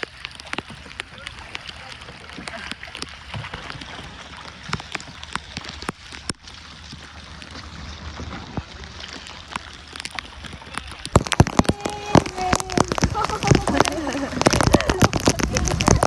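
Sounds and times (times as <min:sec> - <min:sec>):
water splashing and dripping: 0:00.0 - 0:16.0.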